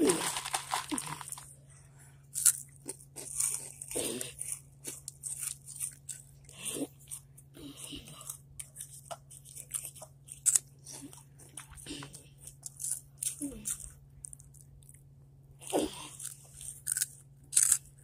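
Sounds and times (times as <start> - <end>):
chips crunching: 0.0 - 1.5, 2.3 - 7.2, 8.1 - 15.0, 16.0 - 18.0
steady low hum: 0.0 - 18.0.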